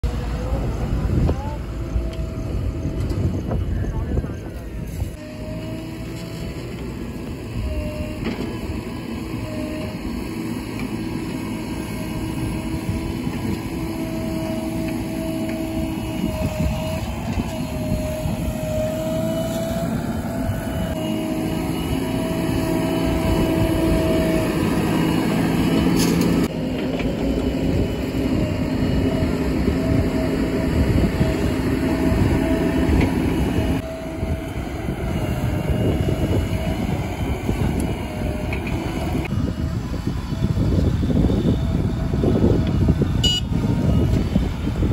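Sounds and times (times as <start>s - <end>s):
diesel engines under load: 0.0s - 44.9s
steady wavering whine: 0.0s - 44.9s.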